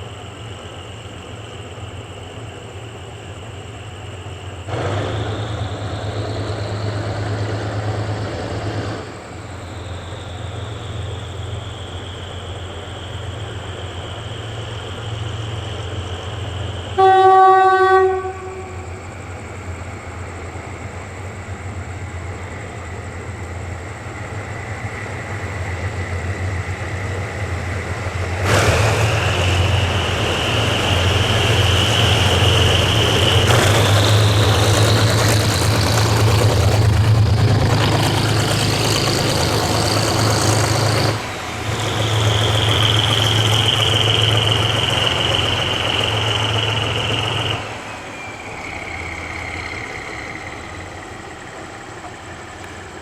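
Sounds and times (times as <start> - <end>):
diesel locomotive engine: 0.0 - 53.0
high engine whine: 0.0 - 53.0.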